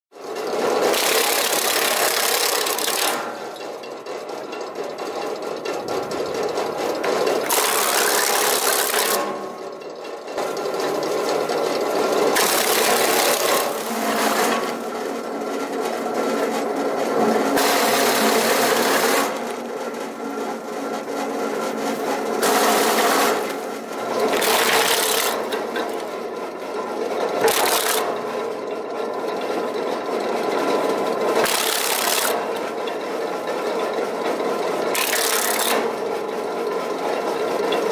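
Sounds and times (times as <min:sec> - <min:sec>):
wood chunker motor running: 0:00.2 - 0:37.9.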